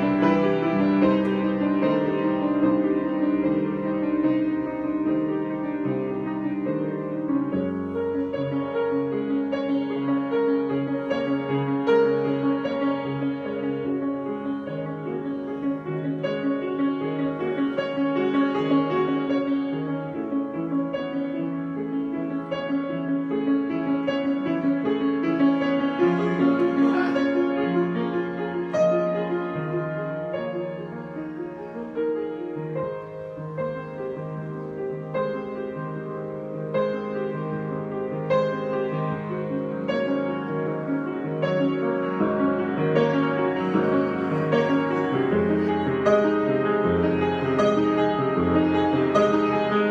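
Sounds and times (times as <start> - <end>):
piano improvisation: 0.0 - 49.9.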